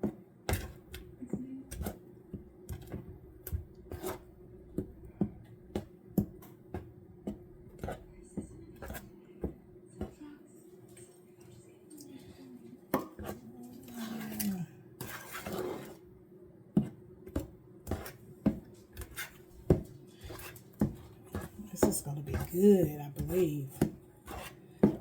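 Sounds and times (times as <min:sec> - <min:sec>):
spatula scraping a bowl: 0:00.0 - 0:10.2, 0:13.0 - 0:16.1, 0:16.8 - 0:25.0.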